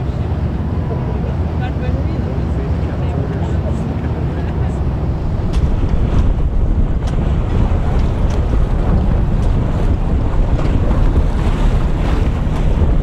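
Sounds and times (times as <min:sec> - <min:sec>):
choppy water lapping: 0:00.0 - 0:13.0
wind buffeting microphone: 0:00.0 - 0:13.0.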